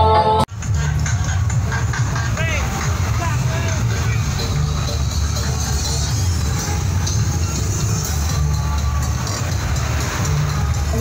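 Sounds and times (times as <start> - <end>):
electronic dance music with heavy bass: 0.0 - 11.0.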